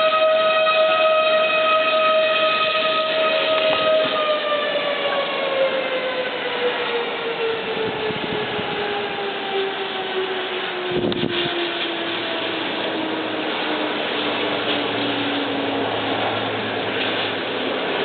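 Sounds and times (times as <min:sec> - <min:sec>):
warning siren winding down: 0:00.0 - 0:18.0.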